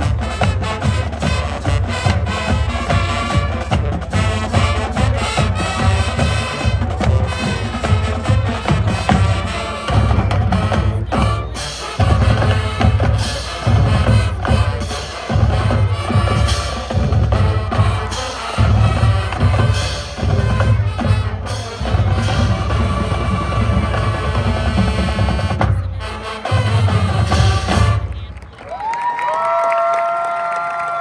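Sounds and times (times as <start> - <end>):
marching band playing: 0.0 - 29.5.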